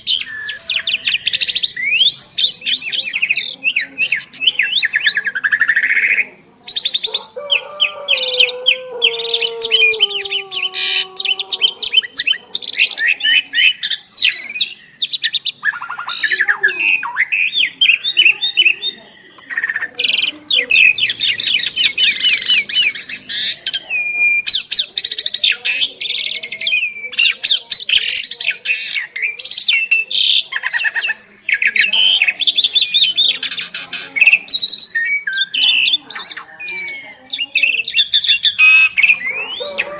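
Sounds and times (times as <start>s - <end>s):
bird warbled phrase: 0.0s - 39.9s
starlings chattering and whistling: 0.0s - 39.9s.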